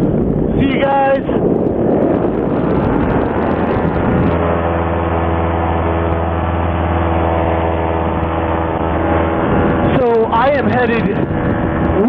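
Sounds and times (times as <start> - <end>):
two-stroke paramotor engine running: 1.1 - 12.0.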